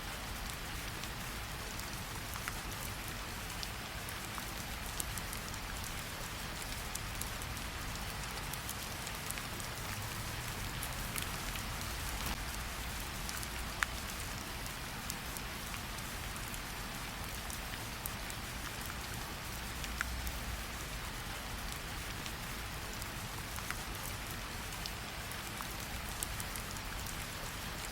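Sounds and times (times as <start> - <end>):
steady rain hiss: 0.0 - 27.9.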